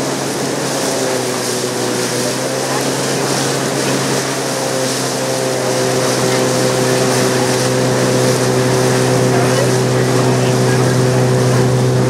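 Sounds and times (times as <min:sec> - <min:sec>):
motorboat engine humming: 0:00.0 - 0:12.0
water rushing: 0:00.0 - 0:12.0.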